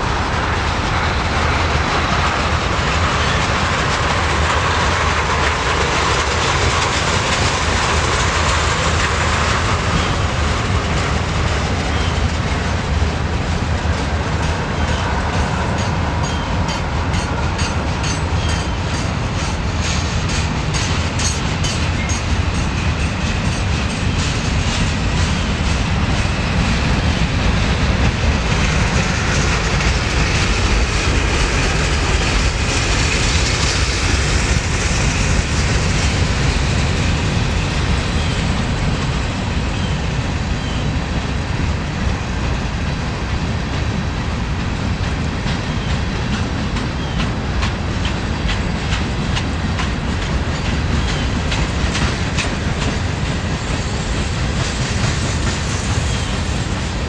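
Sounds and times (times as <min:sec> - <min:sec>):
clickety-clack over rail joints: 0:00.0 - 0:57.0
train wheels rumbling on rail: 0:00.0 - 0:57.0.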